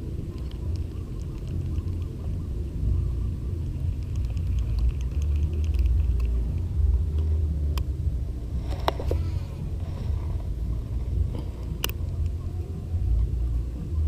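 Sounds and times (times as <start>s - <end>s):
low uneven rumble: 0.0s - 14.0s.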